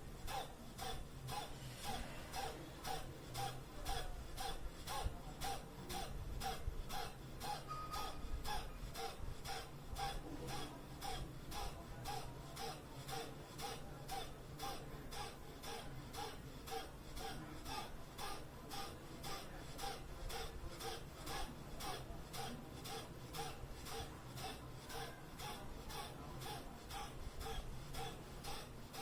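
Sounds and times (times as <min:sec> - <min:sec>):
person breathing forcefully through nose: 0:00.1 - 0:29.0.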